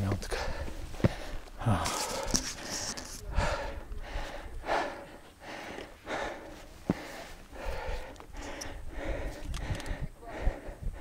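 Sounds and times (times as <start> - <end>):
person breathing hard: 0.3 - 11.0.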